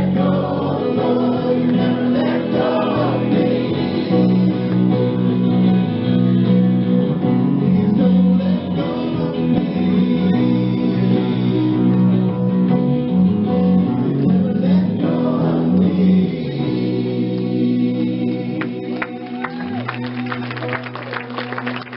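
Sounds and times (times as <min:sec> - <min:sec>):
guitar-led song with vocals: 0:00.0 - 0:20.2.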